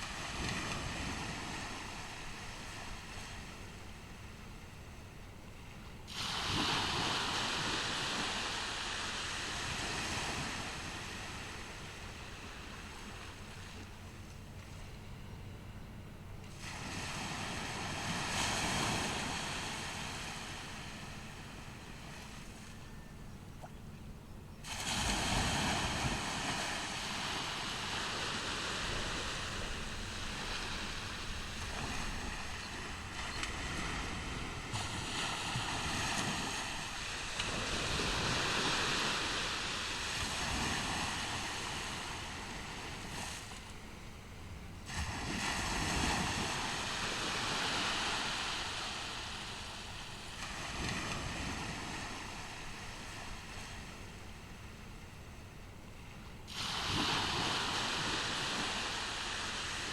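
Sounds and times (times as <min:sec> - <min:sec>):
surf breaking on beach: 0:00.0 - 0:03.9, 0:06.1 - 0:13.8, 0:16.5 - 0:22.8, 0:24.6 - 0:43.8, 0:44.8 - 0:54.3, 0:56.5 - 0:59.9.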